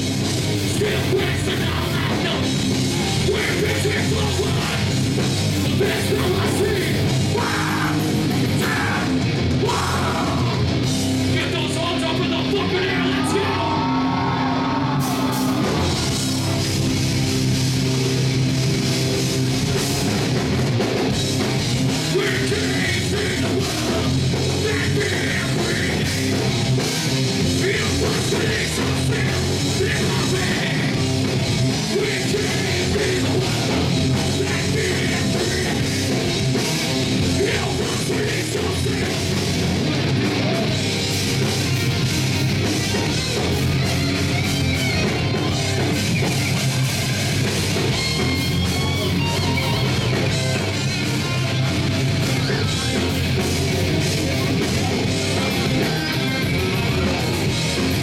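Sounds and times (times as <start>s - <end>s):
pounding drum kit: 0.0s - 14.2s, 14.9s - 58.0s
bass guitar: 0.0s - 58.0s
distorted electric guitars: 0.0s - 58.0s.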